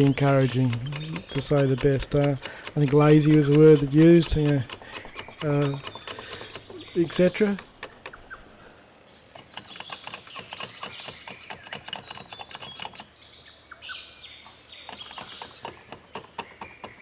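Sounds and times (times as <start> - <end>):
sharp clicks: 0.0 - 8.4, 9.4 - 13.1, 14.9 - 17.0
birds chirping: 0.0 - 17.0.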